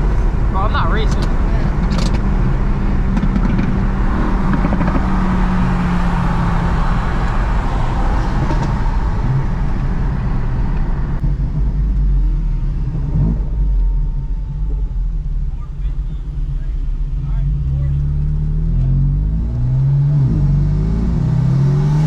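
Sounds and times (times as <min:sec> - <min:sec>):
car engine: 0:00.0 - 0:22.0
road and wind noise: 0:00.0 - 0:22.0.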